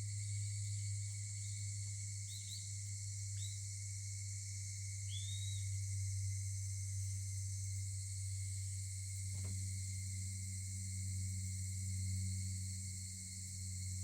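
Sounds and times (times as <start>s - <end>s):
high insect chorus: 0.0s - 14.0s.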